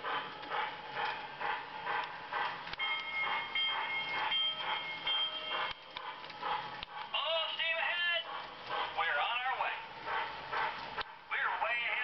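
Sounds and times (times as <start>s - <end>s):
toy locomotive steam chuffing: 0.0s - 12.0s.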